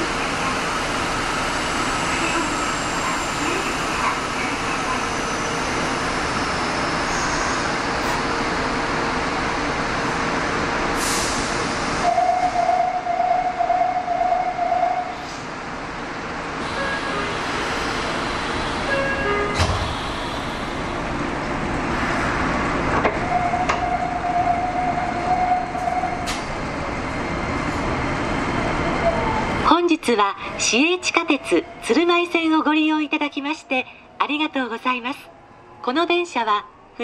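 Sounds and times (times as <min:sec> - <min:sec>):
train background rumble: 0:00.0 - 0:37.0.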